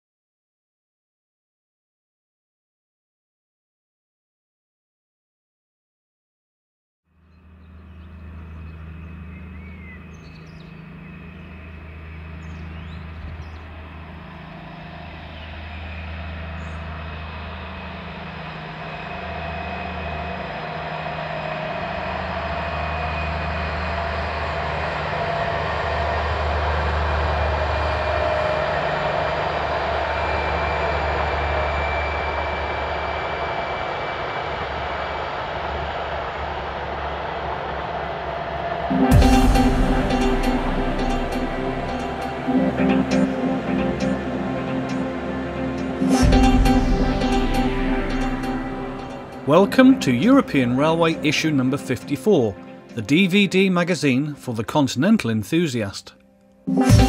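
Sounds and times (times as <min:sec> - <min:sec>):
diesel locomotive engines throbbing: 0:07.2 - 0:54.7, 0:56.7 - 0:57.0.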